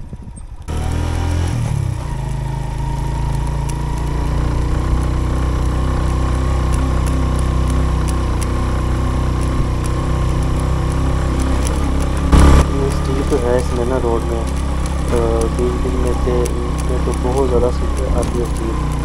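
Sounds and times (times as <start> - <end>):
motorcycle engine climbing: 0.0 - 19.0.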